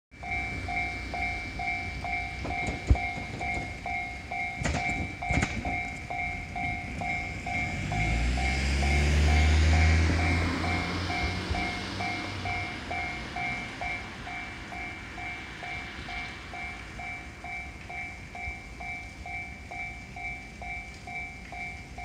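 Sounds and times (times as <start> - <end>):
low rumble: 0.2 - 19.4
level crossing alarm: 0.2 - 22.0.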